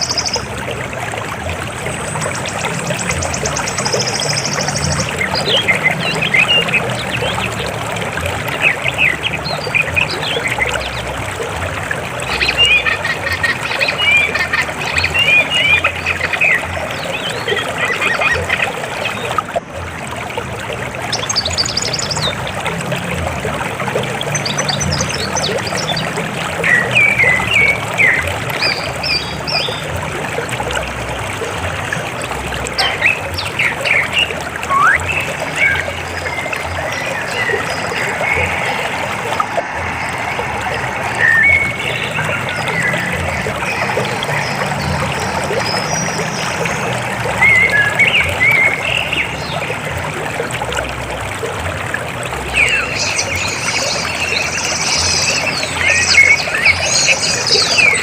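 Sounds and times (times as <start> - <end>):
birds chirping: 0.0 - 19.5, 24.0 - 31.2, 31.9 - 49.8, 52.4 - 58.0
river water flowing: 0.0 - 58.0.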